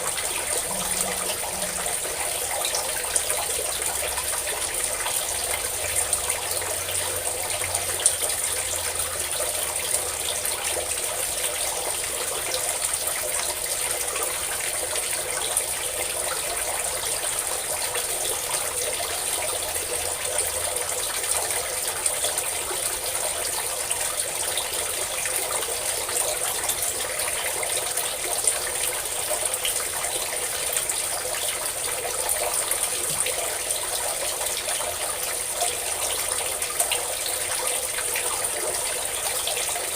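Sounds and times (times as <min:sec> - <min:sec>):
water pouring from a spout: 0:00.0 - 0:39.9.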